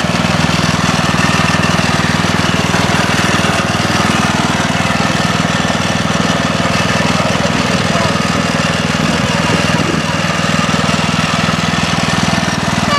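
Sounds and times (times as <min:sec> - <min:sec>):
lawnmower engine running: 0:00.0 - 0:12.9.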